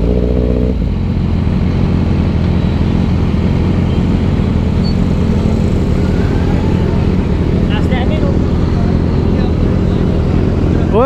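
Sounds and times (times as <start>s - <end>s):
higher-pitched engine drone: 0.0s - 11.0s
motorcycle engine idling: 0.8s - 11.0s.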